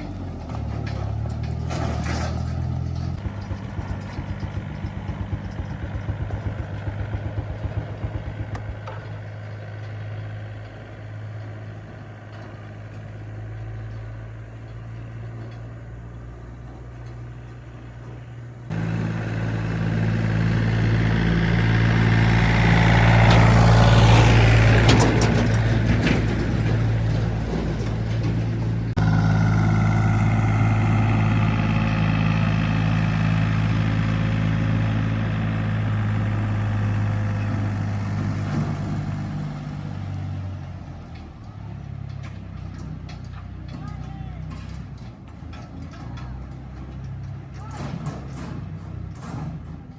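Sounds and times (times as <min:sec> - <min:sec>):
engine clatter: 0:00.0 - 0:49.9
vehicle engine running: 0:00.0 - 0:49.9.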